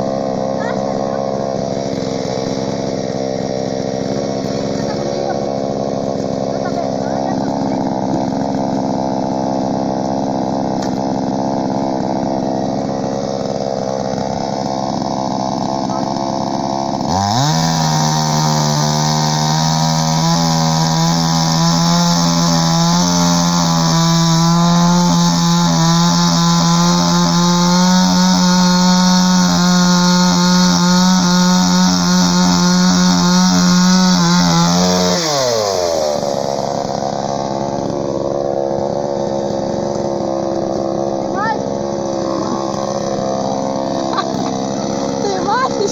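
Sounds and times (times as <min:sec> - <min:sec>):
chainsaw idling and revving: 0:00.0 - 0:45.9.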